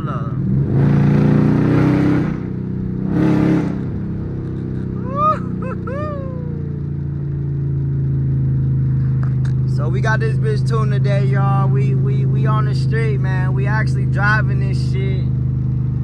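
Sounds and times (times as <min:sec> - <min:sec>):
car engine running: 0:00.0 - 0:16.0
car engine throttle blips: 0:00.0 - 0:16.0.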